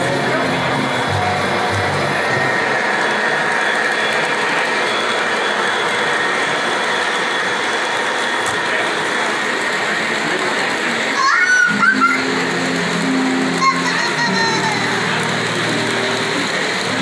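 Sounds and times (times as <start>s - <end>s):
model train wheels whirring: 0.0s - 17.0s.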